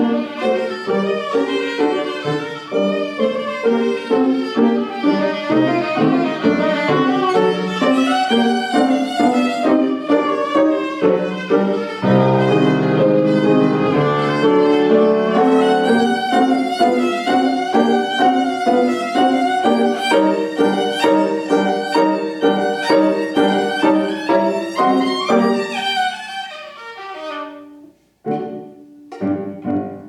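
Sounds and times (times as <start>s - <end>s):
violin fast running notes: 0.3s - 27.7s.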